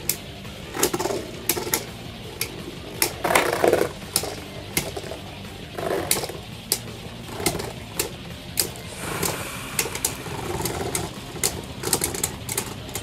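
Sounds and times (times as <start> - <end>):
spinning tops clacking together: 0.0 - 13.0
spinning tops whirring: 0.7 - 13.0.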